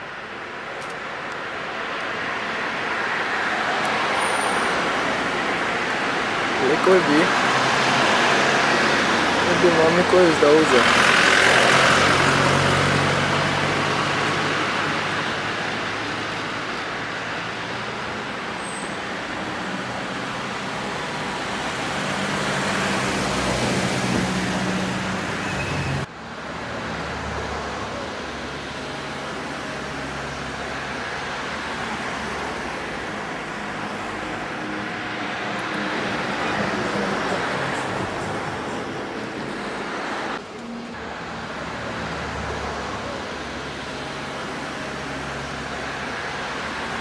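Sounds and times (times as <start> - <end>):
road traffic noise: 0.0 - 47.0.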